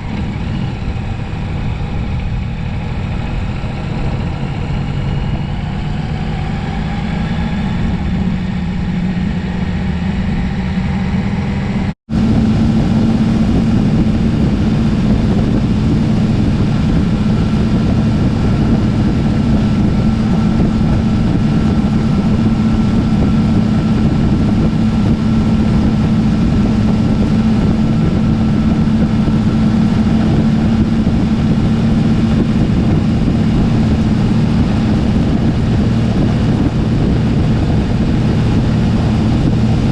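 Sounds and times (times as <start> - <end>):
motorcycle engine cruising: 0.0 - 39.9
steady low hum: 0.0 - 39.9
wind noise: 0.0 - 39.9.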